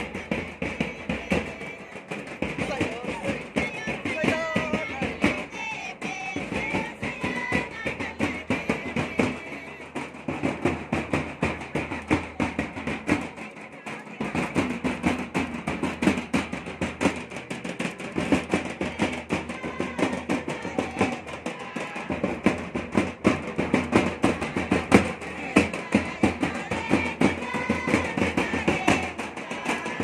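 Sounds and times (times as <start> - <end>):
drum beaten with sticks: 0.0 - 30.0
voices over drumbeat: 0.0 - 30.0.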